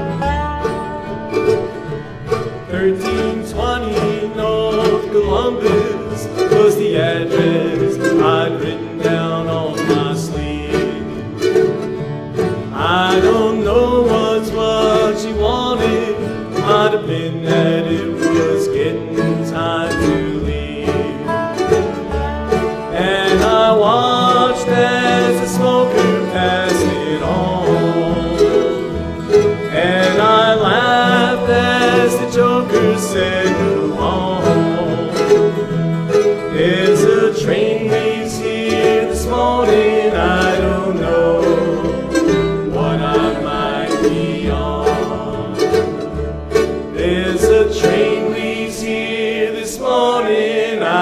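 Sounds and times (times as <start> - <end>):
bluegrass band playing: 0.0 - 51.0.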